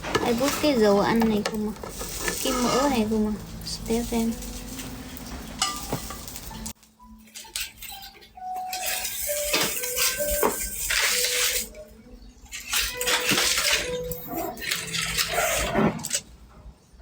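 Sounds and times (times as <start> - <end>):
food sizzling in oil: 0.0 - 16.2
metal utensils clinking on a pan: 0.0 - 16.2.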